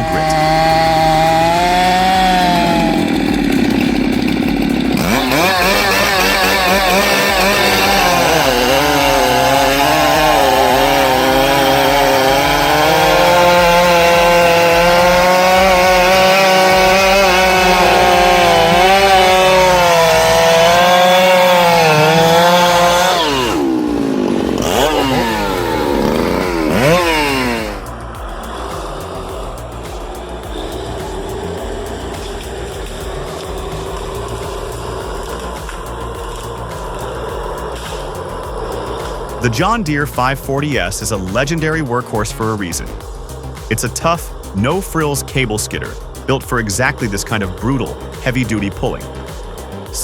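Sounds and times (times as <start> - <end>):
chainsaw cutting wood: 0.0 - 50.0.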